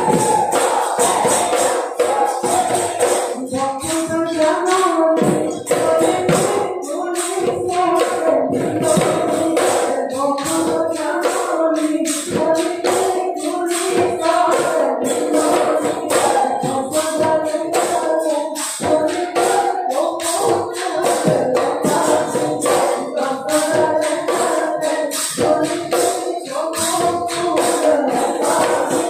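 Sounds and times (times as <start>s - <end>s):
dhol drums: 0.0s - 29.0s
group singing: 0.0s - 29.0s.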